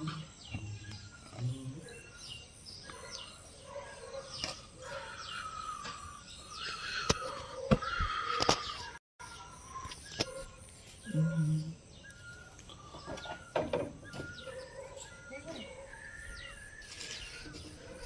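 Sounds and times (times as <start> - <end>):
small birds chirping: 0.0 - 18.0
steady outdoor background hum: 0.0 - 18.0.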